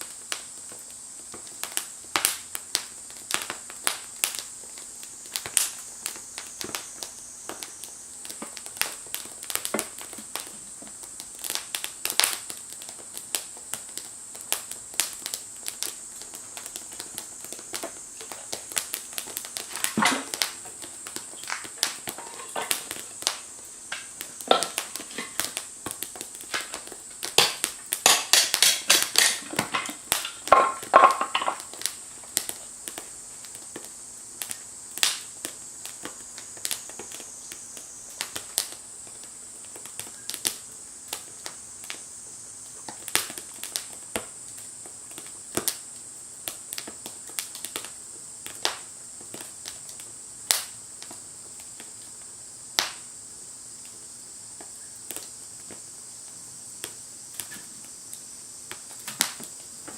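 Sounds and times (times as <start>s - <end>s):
wood fire crackling in stove: 0.0s - 59.9s.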